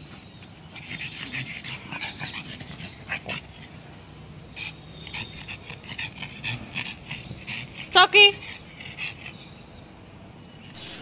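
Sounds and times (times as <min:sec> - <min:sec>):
dog panting: 0:00.6 - 0:09.9.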